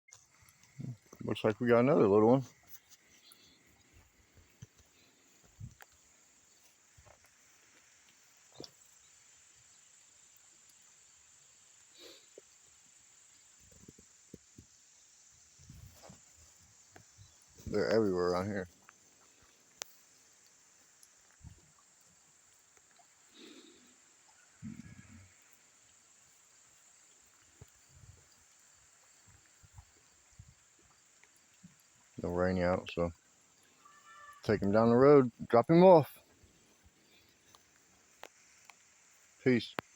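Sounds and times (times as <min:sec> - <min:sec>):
insects chorus: 0:00.1 - 0:39.9.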